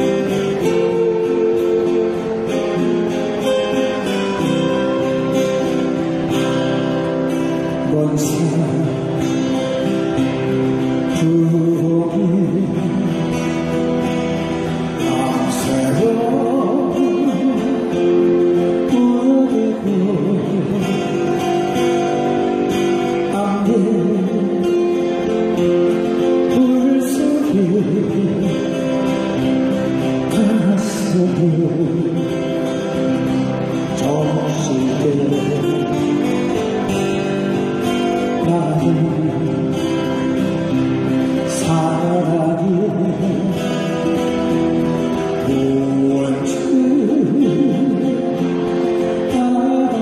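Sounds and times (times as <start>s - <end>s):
acoustic guitar: 0.0s - 50.0s
man singing a slow ballad: 7.0s - 33.0s, 33.9s - 37.2s, 38.0s - 40.4s, 41.2s - 50.0s.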